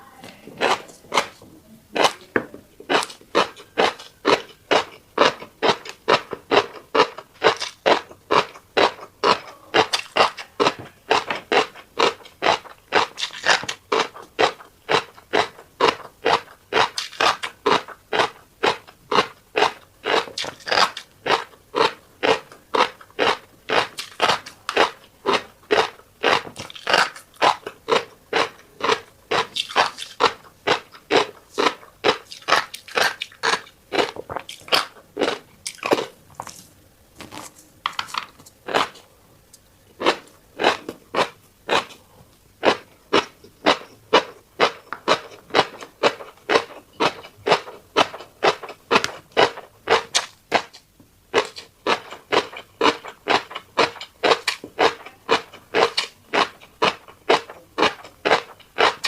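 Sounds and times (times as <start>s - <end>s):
person chewing crunchy food: 0.3s - 59.0s.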